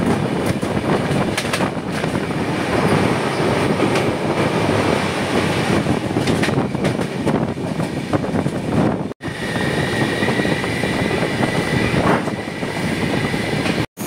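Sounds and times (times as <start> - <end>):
rushing wind: 0.0 - 14.0
train wheels rumbling on rail: 0.0 - 14.0.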